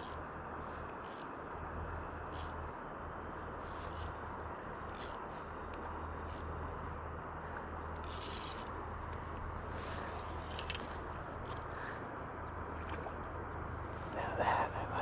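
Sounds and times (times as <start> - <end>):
constant low hum: 0.0 - 15.0.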